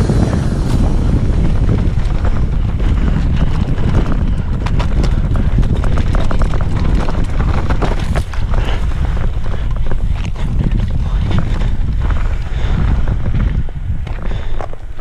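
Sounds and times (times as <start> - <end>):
wind rushing on microphone: 0.0 - 15.0
bike clattering over bumps: 0.2 - 15.0
tyres crunching over stones: 0.7 - 15.0.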